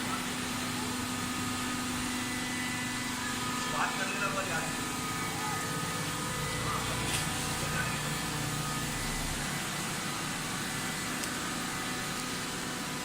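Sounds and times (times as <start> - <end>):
baling machine humming: 0.0 - 13.0.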